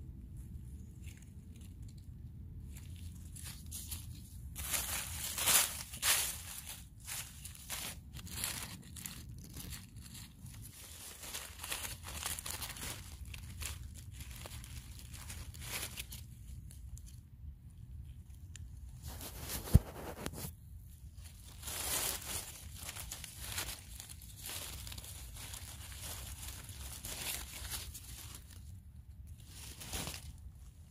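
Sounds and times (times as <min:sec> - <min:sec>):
leaves rustling and crinkling: 0:00.2 - 0:30.9.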